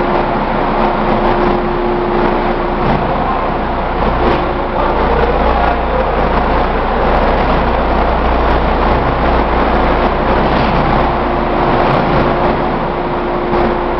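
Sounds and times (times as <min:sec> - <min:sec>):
low motor hum: 0:00.0 - 0:13.9
machine rushing noise: 0:00.0 - 0:13.9.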